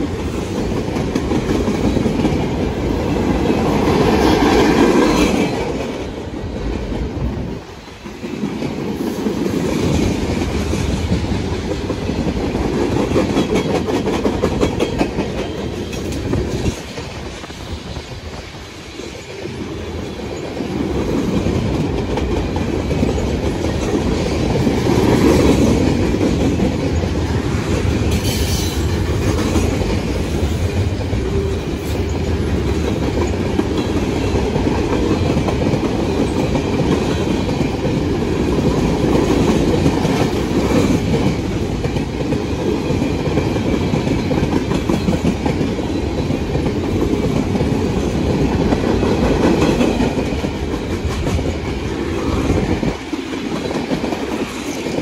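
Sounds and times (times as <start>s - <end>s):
clickety-clack over rail joints: 0.0s - 55.0s
freight train rolling past: 0.0s - 55.0s.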